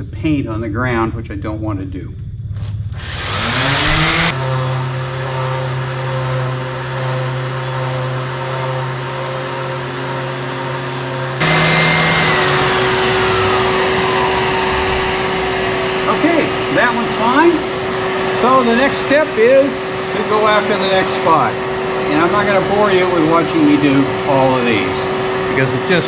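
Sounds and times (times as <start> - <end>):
electric sander sanding wood: 3.0 - 26.0.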